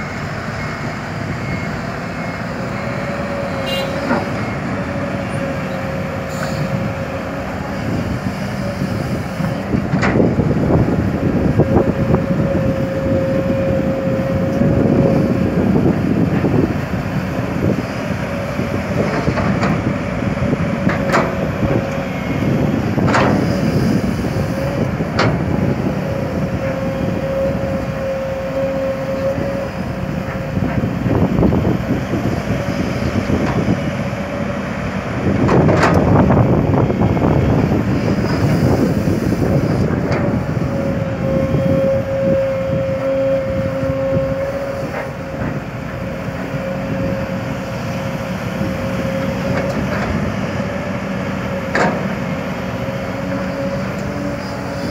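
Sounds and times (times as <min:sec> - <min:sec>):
high hydraulic whine: 0:00.0 - 0:34.6, 0:35.3 - 0:54.9
excavator diesel engine running: 0:00.0 - 0:54.9.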